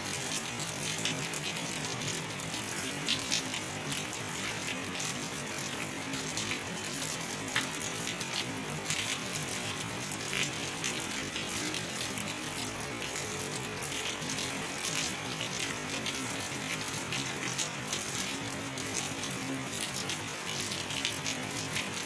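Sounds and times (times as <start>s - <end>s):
raindrops ticking close by: 0.0s - 22.0s
steady rain hiss: 0.0s - 22.0s.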